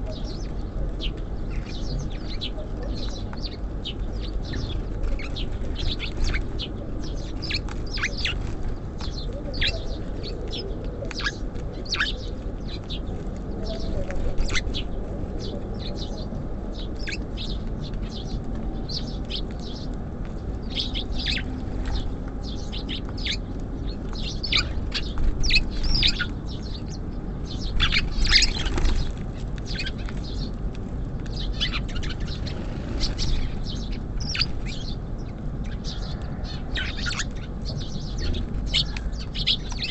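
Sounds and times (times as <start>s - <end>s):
low background rumble: 0.0s - 39.9s
small songbirds chirping: 0.0s - 39.9s.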